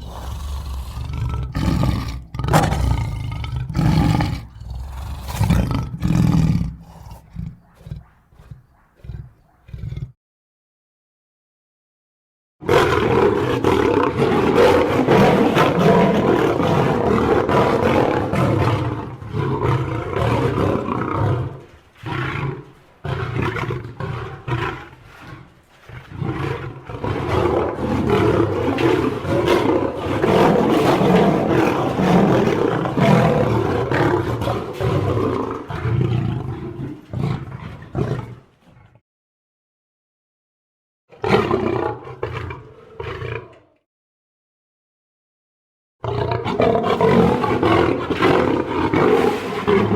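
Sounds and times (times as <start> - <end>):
lion roaring: 0.0 - 10.2, 12.6 - 39.0, 41.2 - 43.8, 46.0 - 49.9.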